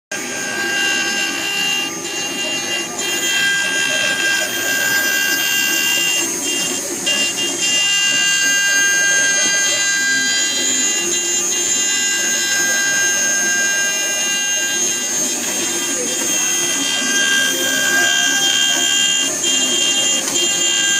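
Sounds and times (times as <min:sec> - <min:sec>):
cnc router whining: 0:00.1 - 0:20.9.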